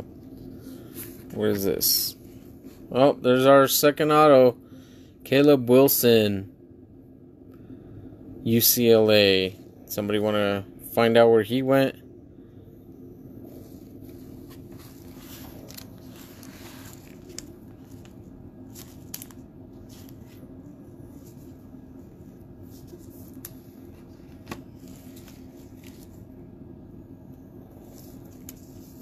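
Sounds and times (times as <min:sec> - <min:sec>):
room hum: 0:00.0 - 0:29.0.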